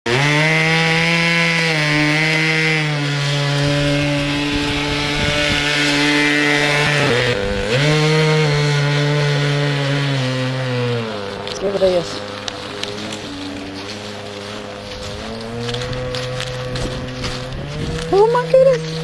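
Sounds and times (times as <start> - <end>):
model airplane engine and propeller: 0.1 - 19.0.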